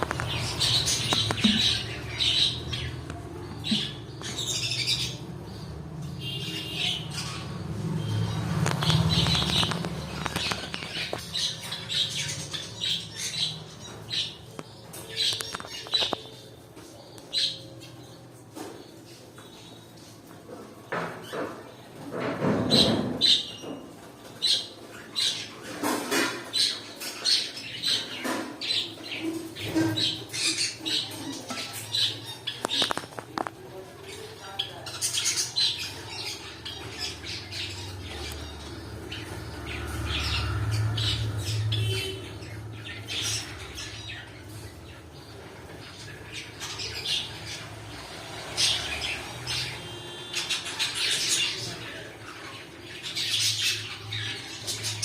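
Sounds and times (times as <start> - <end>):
cockatiels squawking and chirping: 0.0 - 19.6, 22.5 - 55.0.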